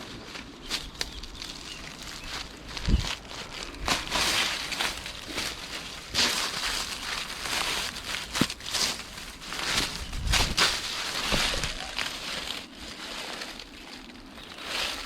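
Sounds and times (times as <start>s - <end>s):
footsteps crunching on dry ground: 0.0s - 15.0s
rustling: 0.0s - 15.0s.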